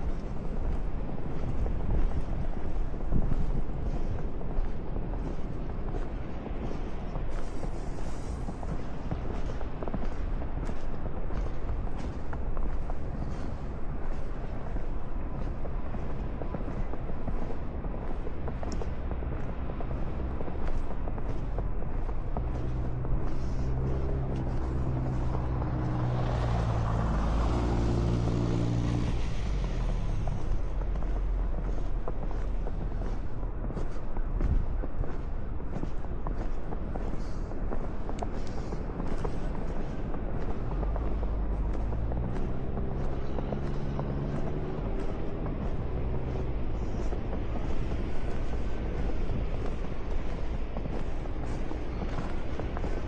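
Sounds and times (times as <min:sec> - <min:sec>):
blizzard wind blowing: 0:00.0 - 0:53.0
car engine hum: 0:00.0 - 0:53.0
tyre hiss on snowy street: 0:00.0 - 0:53.0.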